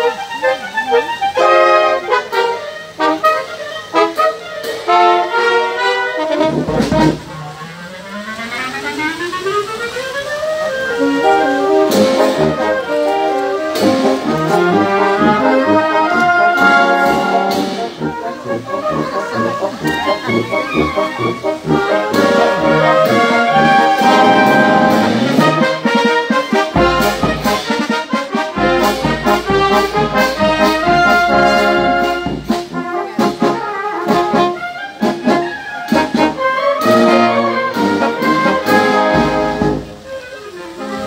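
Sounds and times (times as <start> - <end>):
wind band playing a march: 0.0 - 41.0
drum beats: 4.0 - 7.6, 10.9 - 40.2.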